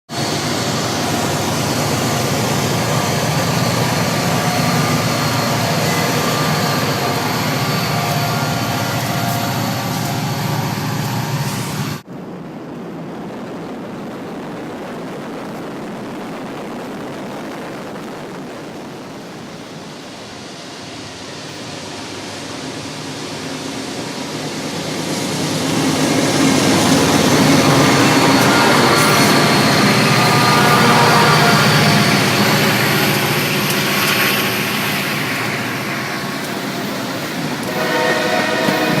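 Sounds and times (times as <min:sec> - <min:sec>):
locomotive engine drone: 0:00.1 - 0:39.0.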